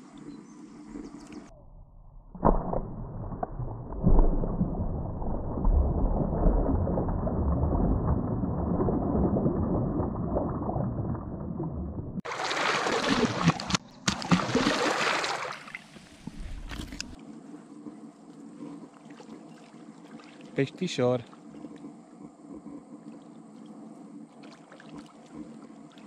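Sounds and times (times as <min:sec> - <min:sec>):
muffled water sloshing: 0:02.4 - 0:17.2, 0:17.8 - 0:26.0.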